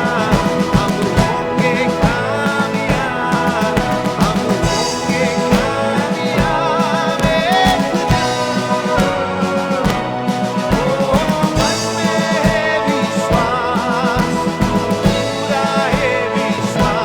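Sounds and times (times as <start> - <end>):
keyboards: 0.0 - 17.0
sliding melodic lead line: 0.0 - 17.0
steady drum beat: 0.0 - 17.0.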